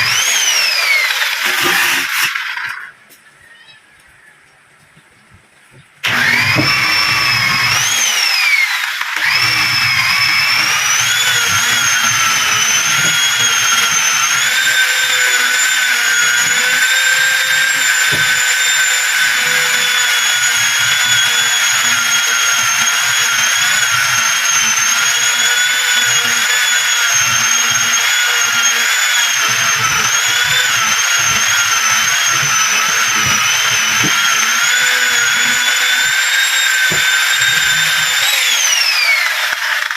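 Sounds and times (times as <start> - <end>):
power tool whining: 0.0 - 3.0, 6.0 - 39.9.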